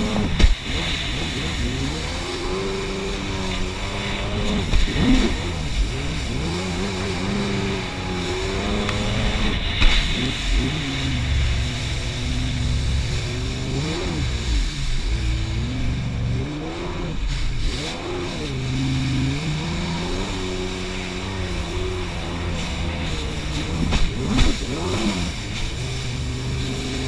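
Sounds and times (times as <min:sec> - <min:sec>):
rushing spray: 0:00.0 - 0:27.0
watercraft engine running: 0:00.0 - 0:27.0.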